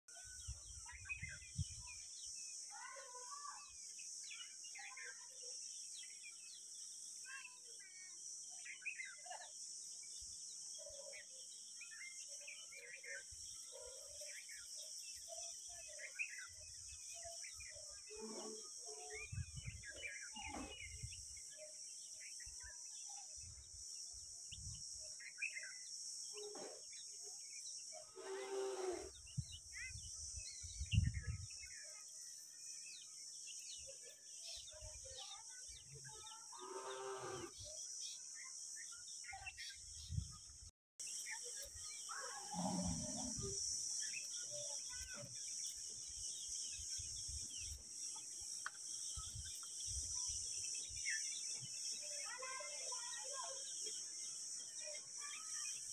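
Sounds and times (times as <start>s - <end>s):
small birds chirping: 0.1s - 55.9s.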